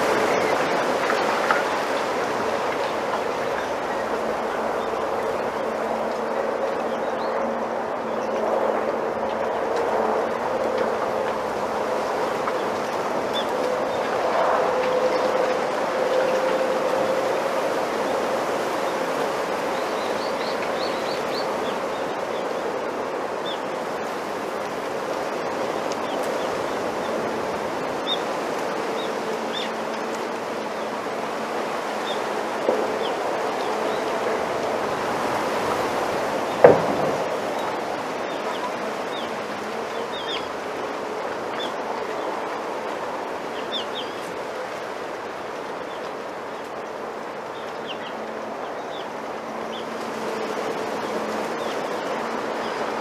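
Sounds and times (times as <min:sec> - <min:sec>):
wind rustling bamboo leaves: 0:00.0 - 0:53.0.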